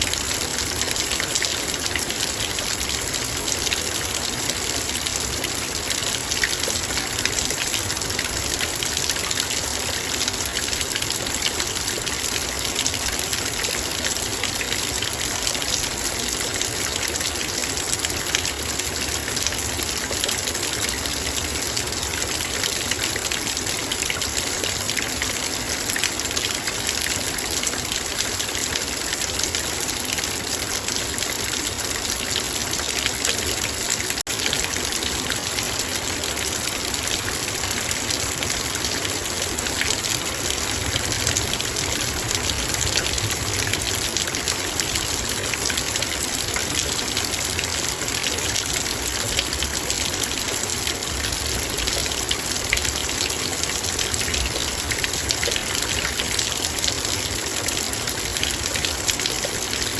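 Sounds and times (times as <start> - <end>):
rain falling on metal bowl: 0.0 - 59.9.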